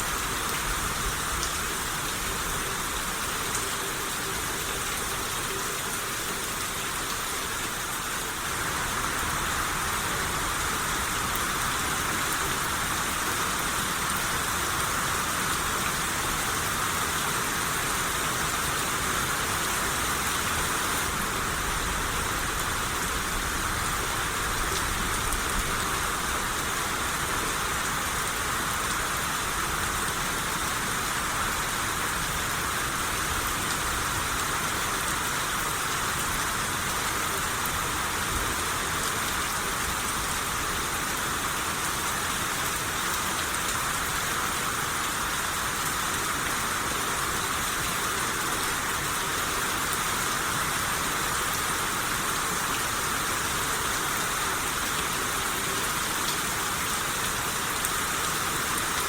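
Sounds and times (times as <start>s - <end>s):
rain hissing: 0.0s - 58.9s.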